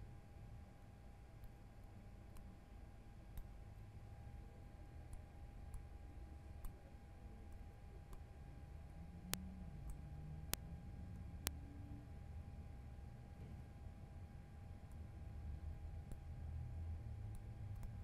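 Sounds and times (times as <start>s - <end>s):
faint steady tone: 0.0s - 18.0s.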